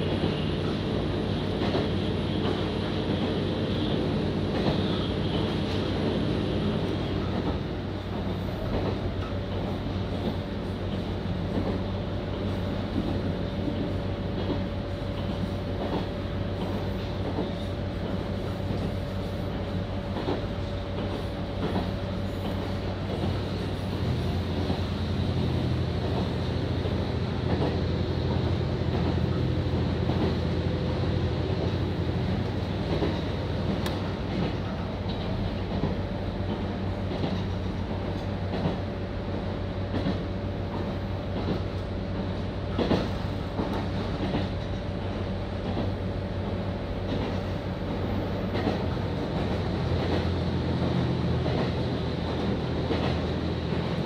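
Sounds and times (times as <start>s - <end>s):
train interior low drone: 0.0s - 54.0s.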